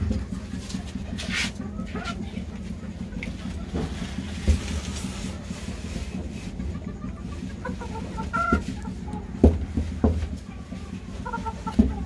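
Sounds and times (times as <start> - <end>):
chickens clucking: 0.0 - 12.0
steady low hum: 0.0 - 12.0.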